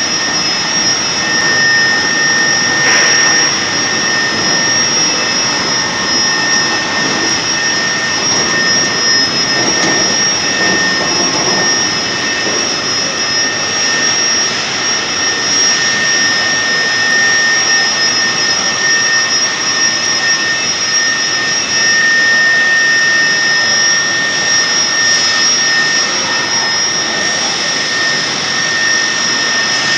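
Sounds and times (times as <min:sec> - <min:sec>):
factory machinery din: 0:00.0 - 0:29.9
high-pitched machine whines: 0:00.0 - 0:29.9.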